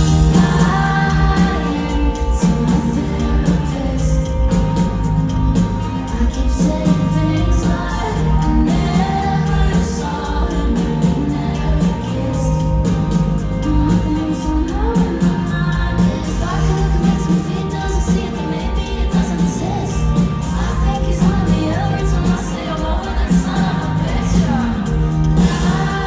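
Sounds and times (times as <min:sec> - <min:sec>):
live band with electric guitar: 0:00.0 - 0:26.0
woman singing: 0:00.0 - 0:26.0.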